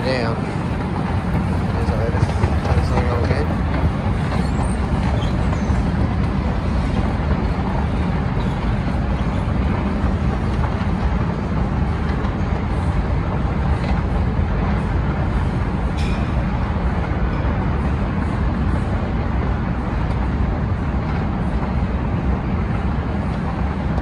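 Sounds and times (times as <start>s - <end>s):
moving walkway rumbling: 0.0s - 24.0s.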